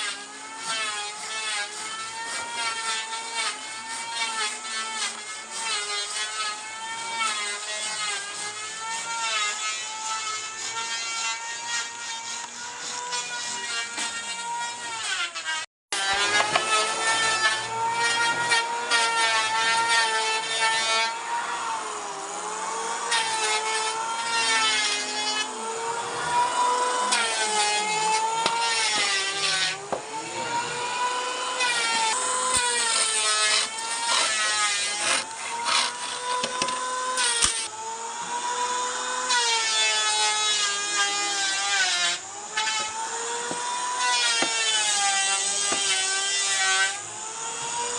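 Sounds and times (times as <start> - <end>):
power tool motor running: 0.0 - 47.9
rough wood cutting: 0.0 - 47.9.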